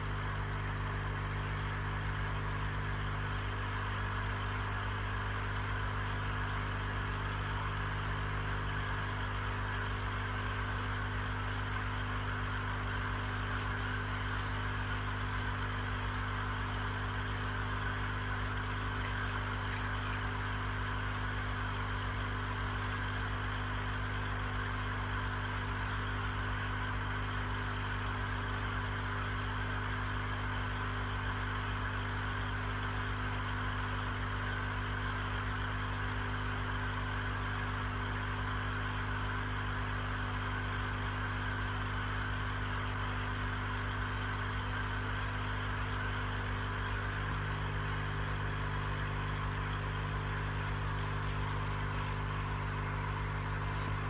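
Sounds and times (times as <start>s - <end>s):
air pump humming: 0.0s - 54.0s
low hum tone: 0.0s - 54.0s.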